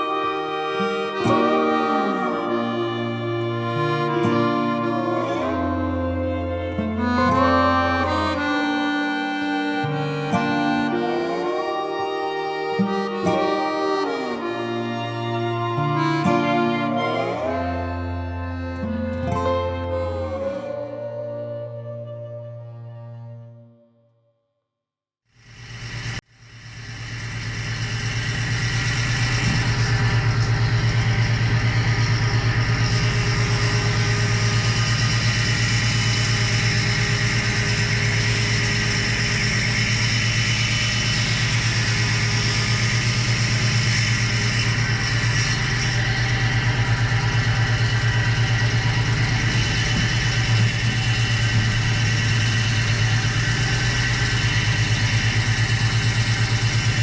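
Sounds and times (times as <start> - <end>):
machine motor humming: 0.0 - 22.0, 25.6 - 57.0.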